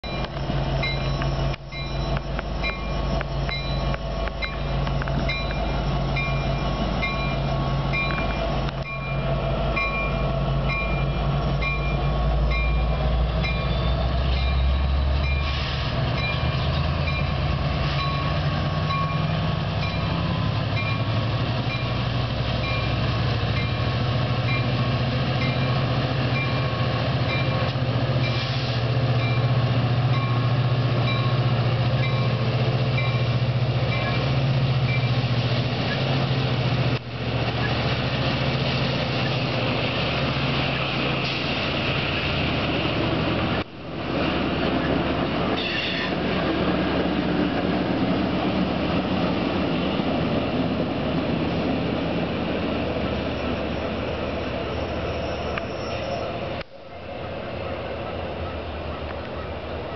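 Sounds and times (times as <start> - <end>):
diesel locomotive drone: 0.0 - 59.9.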